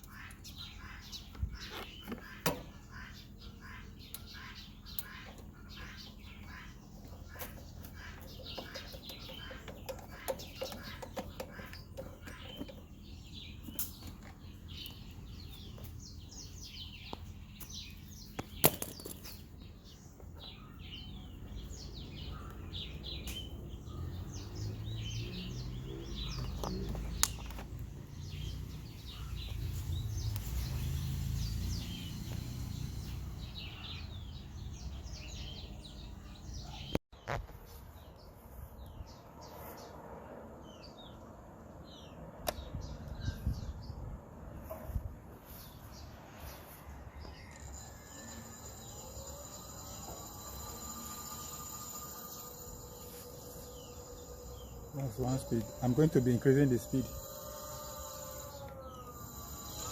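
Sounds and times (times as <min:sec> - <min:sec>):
small birds chirping: 0:00.0 - 0:47.9, 0:48.6 - 0:59.9.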